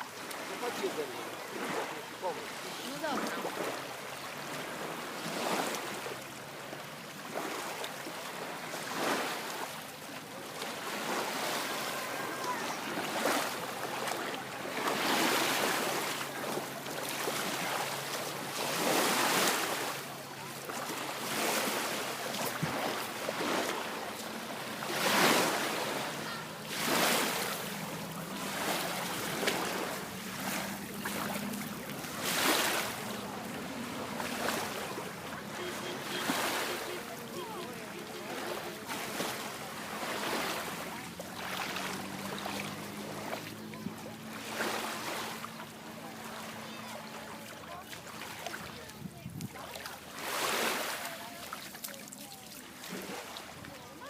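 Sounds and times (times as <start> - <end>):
sea water rushing and splashing: 0.0 - 54.0.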